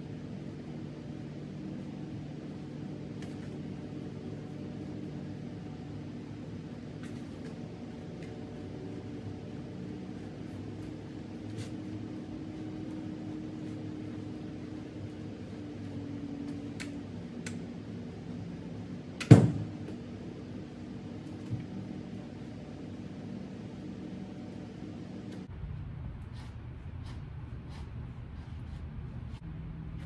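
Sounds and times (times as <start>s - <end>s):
air-handling machinery hum: 0.0s - 30.0s.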